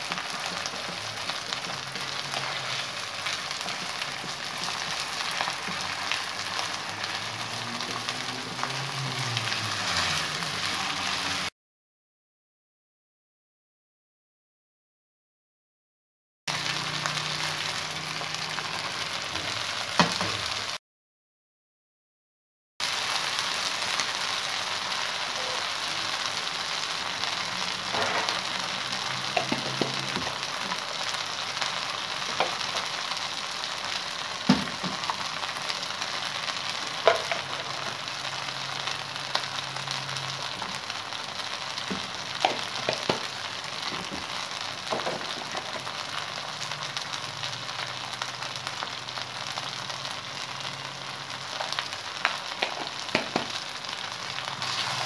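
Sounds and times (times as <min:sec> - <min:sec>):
meat sizzling in oil: 0:00.0 - 0:11.5, 0:16.5 - 0:20.8, 0:22.8 - 0:55.0.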